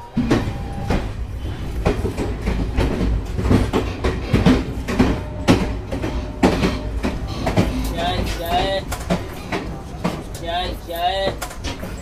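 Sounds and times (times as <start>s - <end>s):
train carriage rumbling: 0.0s - 12.0s
wheels clacking over rail joints: 0.0s - 12.0s.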